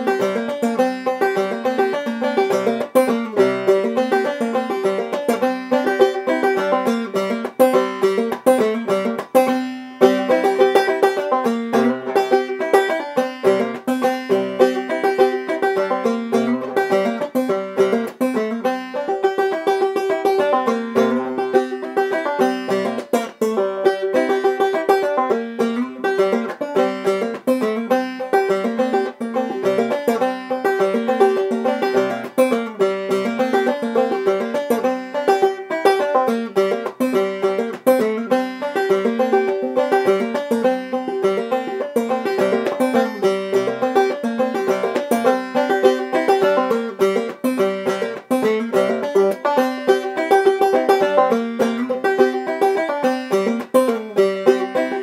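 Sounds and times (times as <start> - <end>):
banjo playing solo: 0.0 - 55.0.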